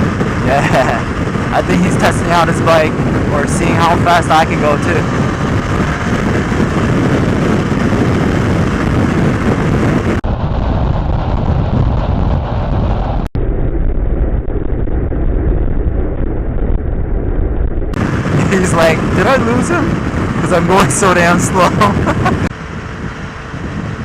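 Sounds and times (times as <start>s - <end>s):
road noise: 0.0s - 13.4s, 16.6s - 24.0s
motorcycle engine: 0.0s - 24.0s
wind rush on microphone: 0.0s - 24.0s.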